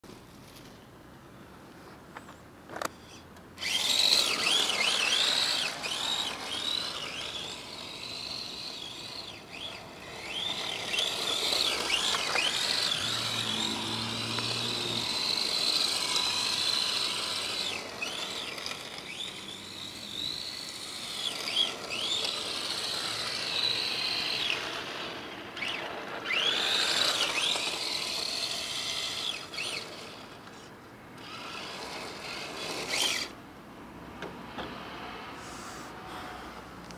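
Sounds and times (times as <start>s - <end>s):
rc car motor whining: 2.7s - 33.4s
tyres sliding on asphalt: 3.6s - 33.4s.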